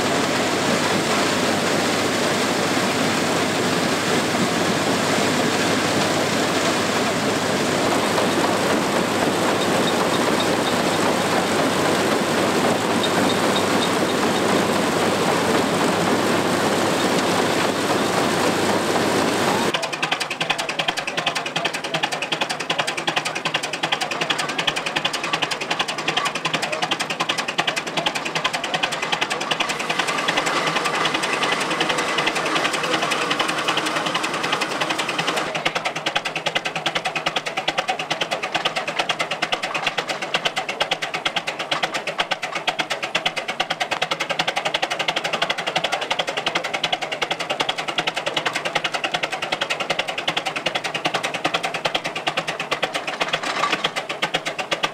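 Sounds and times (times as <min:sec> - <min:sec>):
threshing machine clattering: 0:00.0 - 0:54.9.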